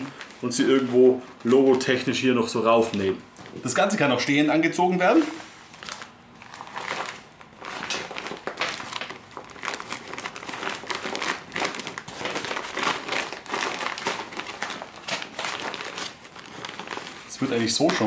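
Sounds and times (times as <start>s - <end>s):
plastic bag crinkling: 0.0s - 2.2s, 5.2s - 18.0s.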